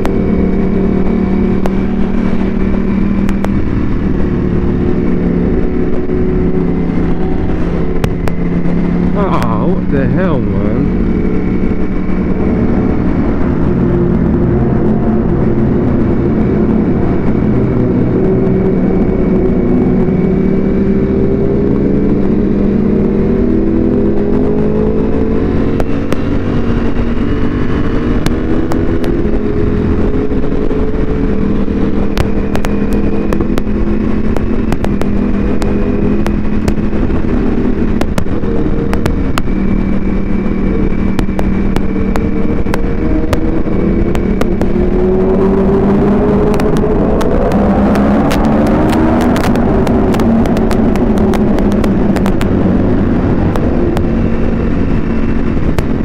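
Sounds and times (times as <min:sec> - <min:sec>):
motorcycle engine cruising: 0:00.0 - 0:56.0
wind noise rushing: 0:00.0 - 0:56.0.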